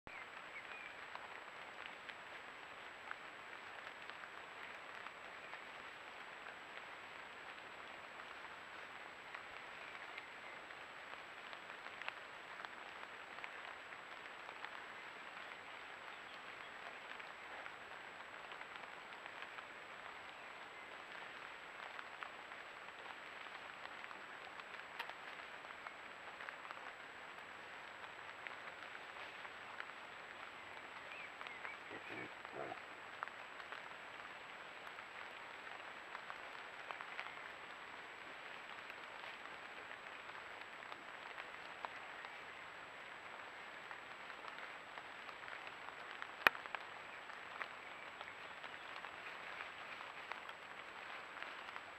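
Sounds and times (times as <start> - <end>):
rain pattering on leaves: 0.1 - 51.9.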